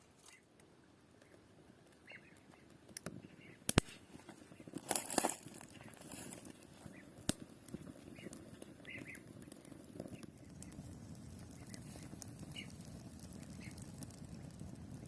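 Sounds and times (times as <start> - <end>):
faint low crackling: 0.0 - 15.0
small birds chirping: 1.2 - 3.7, 4.4 - 4.8, 5.5 - 15.0.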